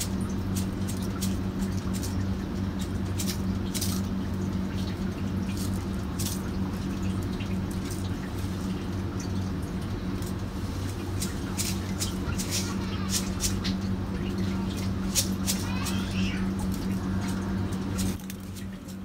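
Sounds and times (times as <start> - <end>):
salt crackling and rustling: 0.0 - 19.0
steady low hum: 0.0 - 19.0.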